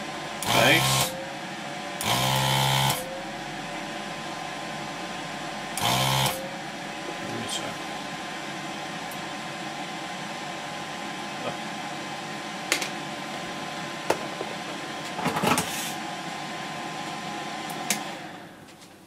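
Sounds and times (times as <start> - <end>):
vacuum pump humming: 0.0 - 19.0.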